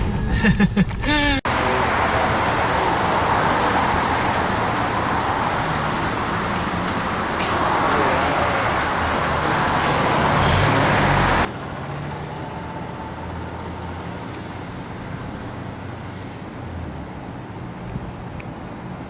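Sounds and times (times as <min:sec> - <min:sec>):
cars passing on street: 0:00.0 - 0:19.0.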